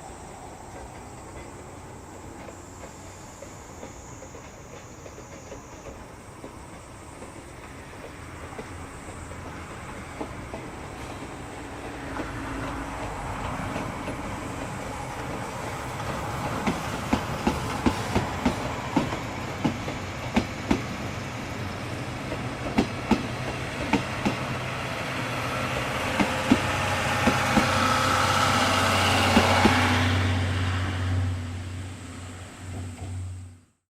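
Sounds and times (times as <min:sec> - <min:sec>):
train coaches rolling past: 0:00.0 - 0:33.7
wheels clacking over rail joints: 0:00.7 - 0:30.7.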